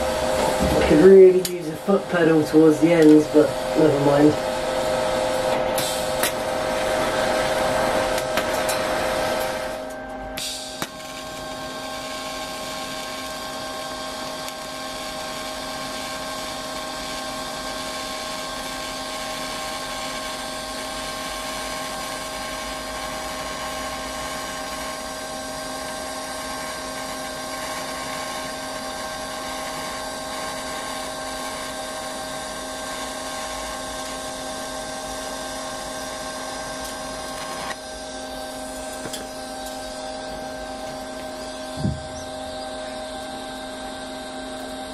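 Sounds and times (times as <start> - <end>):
constant hum: 0.0 - 18.2, 24.2 - 44.9
welding arc hiss: 0.0 - 44.9.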